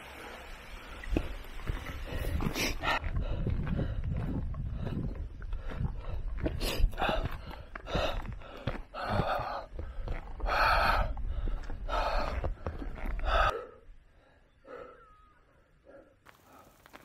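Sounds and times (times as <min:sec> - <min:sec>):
person breathing heavily: 0:00.2 - 0:17.0.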